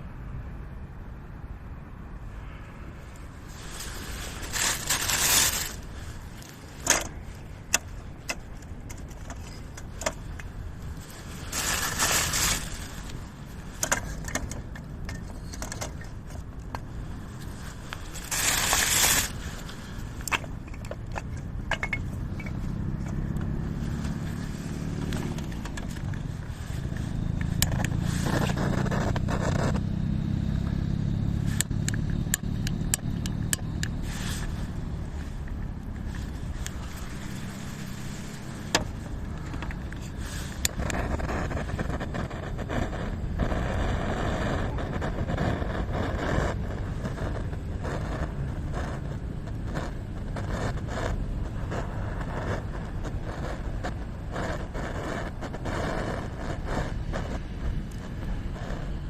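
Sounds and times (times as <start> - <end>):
low rumble: 0.0 - 59.0
sharp clicks and scrapes: 3.1 - 29.9, 31.4 - 59.0.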